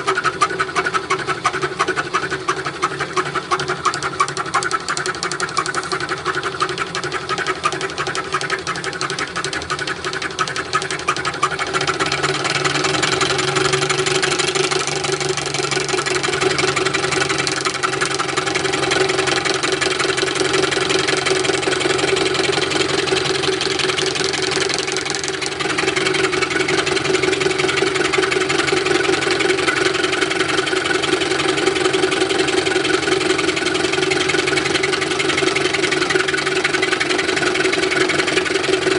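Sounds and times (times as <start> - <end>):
machine hum: 0.0 - 38.9
milling machine rattling: 0.0 - 38.9.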